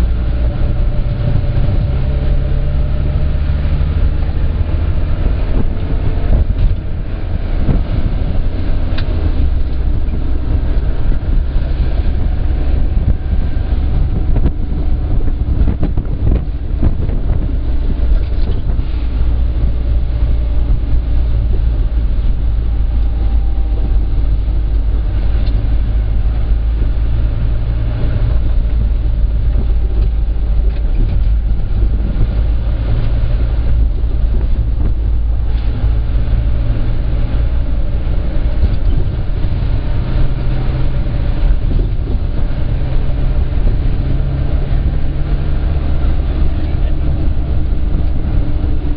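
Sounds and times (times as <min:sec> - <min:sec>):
minibus engine rumble: 0:00.0 - 0:48.9.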